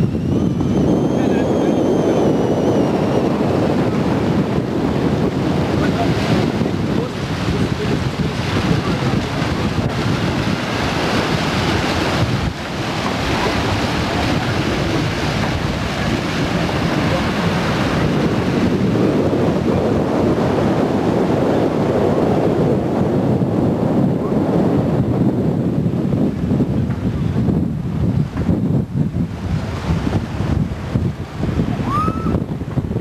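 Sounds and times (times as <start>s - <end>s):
wind blowing on microphone: 0.0s - 33.0s.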